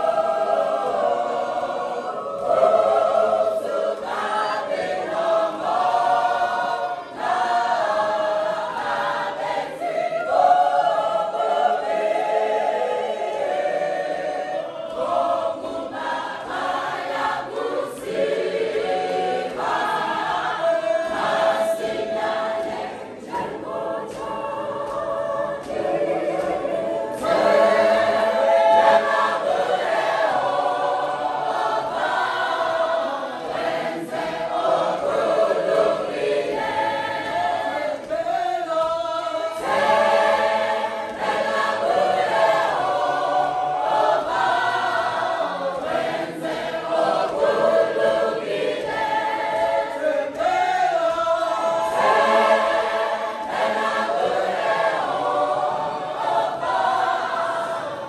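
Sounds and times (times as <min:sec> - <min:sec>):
women's choir singing: 0:00.0 - 0:58.0.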